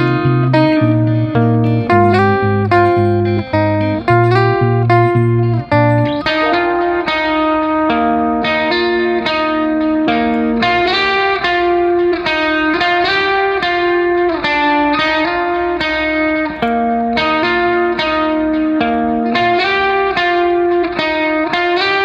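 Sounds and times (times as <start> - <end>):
plucked guitar melody: 0.0 - 22.0.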